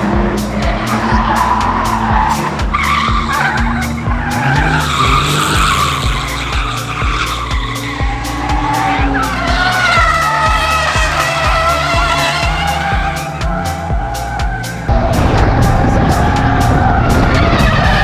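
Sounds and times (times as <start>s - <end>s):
car tyres squealing: 0.0s - 18.0s
fast beat background music: 0.0s - 18.0s.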